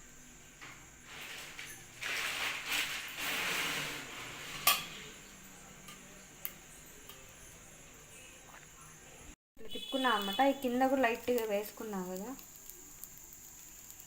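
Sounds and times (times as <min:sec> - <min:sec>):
scraping and frying in a pan: 0:00.8 - 0:08.6, 0:09.7 - 0:14.0.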